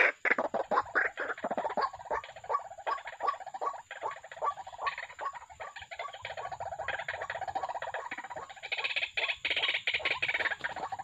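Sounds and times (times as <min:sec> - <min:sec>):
waterhens calling: 0:00.0 - 0:11.0.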